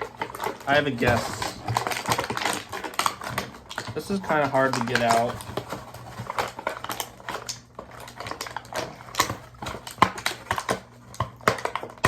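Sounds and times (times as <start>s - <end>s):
plastic packaging crackling: 0.0s - 12.0s.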